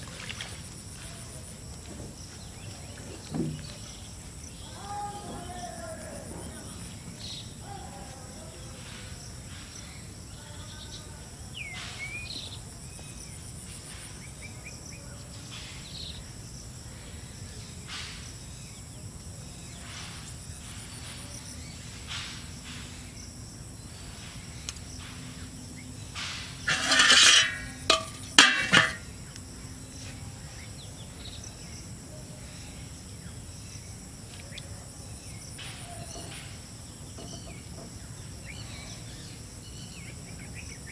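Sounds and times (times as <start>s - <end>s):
insect hum: 0.0s - 40.9s.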